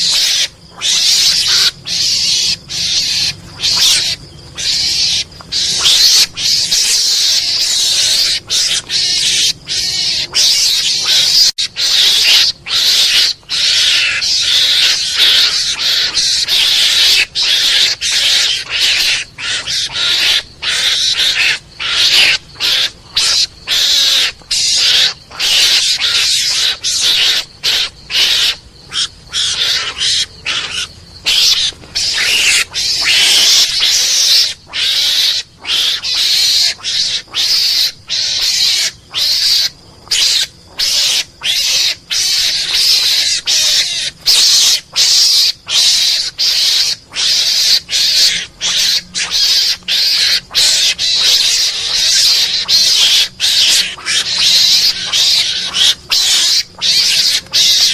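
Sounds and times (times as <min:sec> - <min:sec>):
harsh rasping lure calls: 0:00.0 - 0:57.9.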